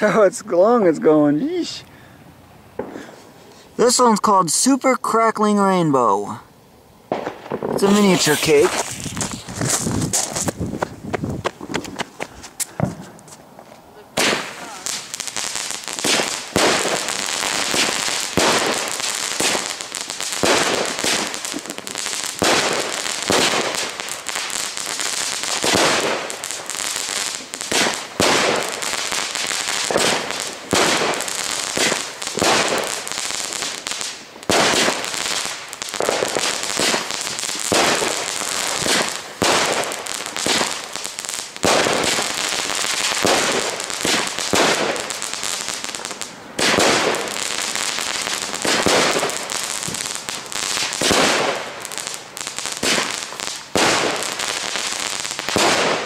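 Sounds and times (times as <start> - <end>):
fireworks crackling: 0.0 - 6.4, 7.0 - 56.0
fireworks pops: 2.8 - 3.2, 7.1 - 19.8, 20.4 - 24.5, 27.3 - 56.0.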